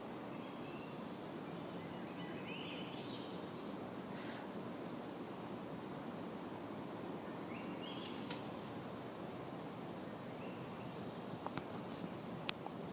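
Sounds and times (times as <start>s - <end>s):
outdoor background noise: 0.0s - 12.9s.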